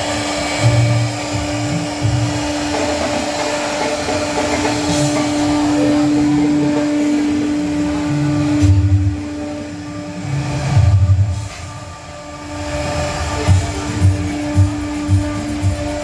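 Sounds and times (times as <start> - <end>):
electric motor humming: 0.0 - 16.0
loud hiss: 0.0 - 16.0.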